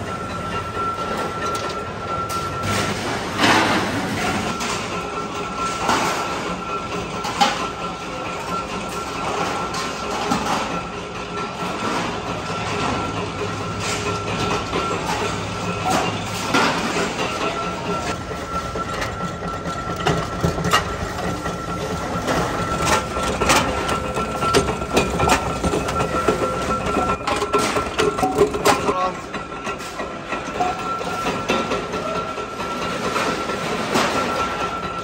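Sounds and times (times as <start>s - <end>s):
machine whine and hum: 0.0s - 35.0s.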